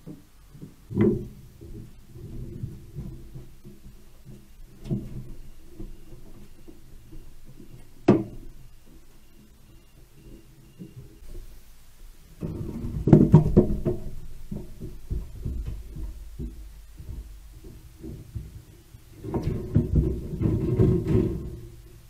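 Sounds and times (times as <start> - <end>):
animals thumping on metal roof: 0.0 - 11.5, 12.4 - 22.0.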